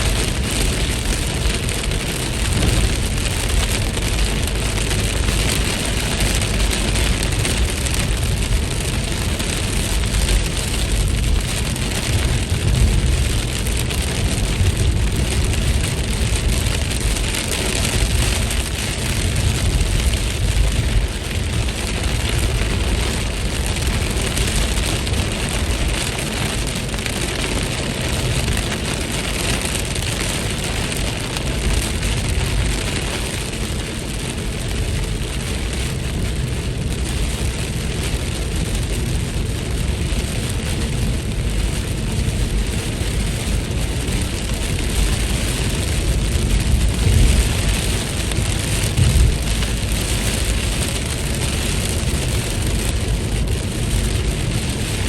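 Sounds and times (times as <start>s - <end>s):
heavy low rumble: 0.0s - 55.0s
steady rain falling: 0.0s - 55.0s.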